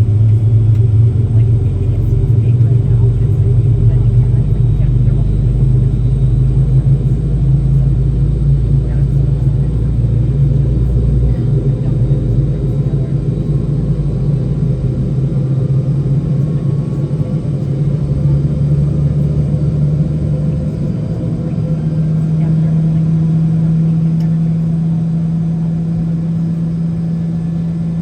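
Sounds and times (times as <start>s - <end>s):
aircraft cabin rumble and hum: 0.0s - 28.0s.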